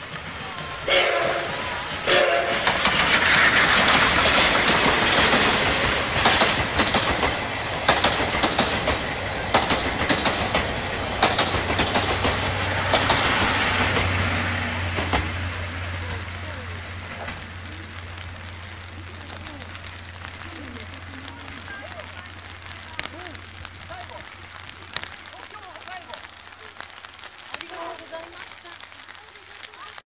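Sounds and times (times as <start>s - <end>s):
wheels clacking over rail joints: 0.0s - 26.9s
train passing with loud rumble: 0.0s - 30.0s.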